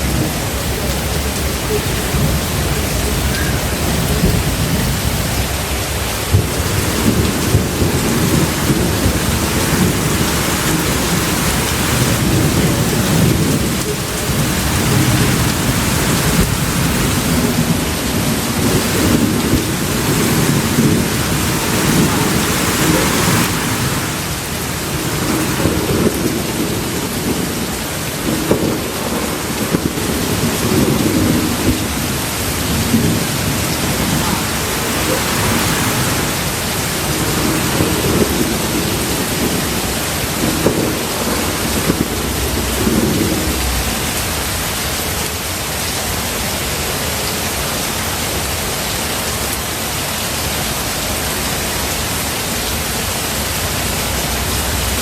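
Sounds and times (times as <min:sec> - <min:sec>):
rolling thunder: 0:00.0 - 0:45.0
steady rain: 0:00.0 - 0:55.0.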